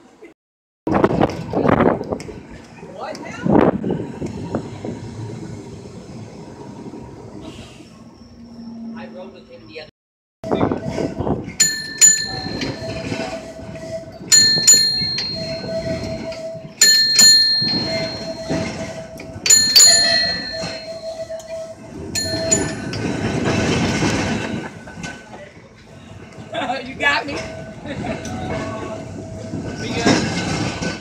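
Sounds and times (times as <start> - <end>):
tram rumble: 0.9 - 31.0.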